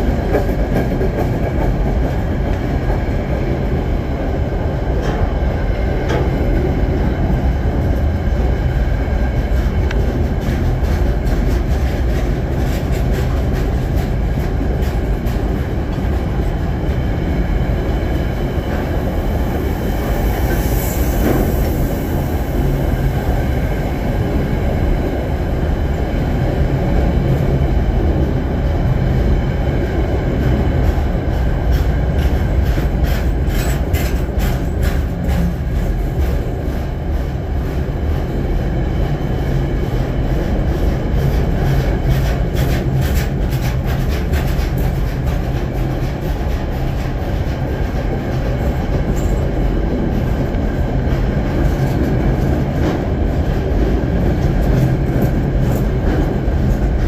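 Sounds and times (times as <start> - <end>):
wheels clattering on rails: 0.0 - 23.6, 29.8 - 57.0
freight train rumbling past: 0.0 - 57.0.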